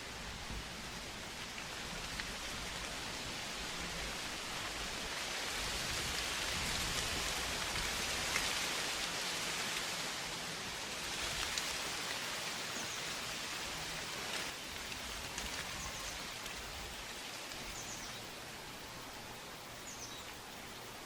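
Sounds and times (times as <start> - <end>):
rain-like outdoor hiss: 0.0 - 21.0.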